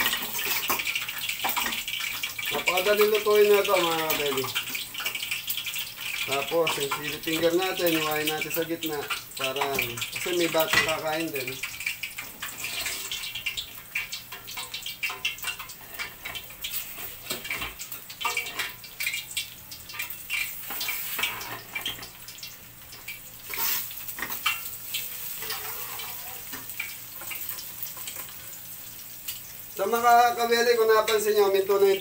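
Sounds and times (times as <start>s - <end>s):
oil crackling and popping: 0.0s - 32.0s.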